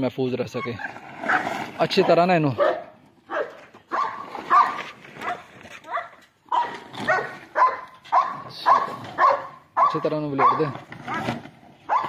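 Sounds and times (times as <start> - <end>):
dog barking: 0.6 - 11.2.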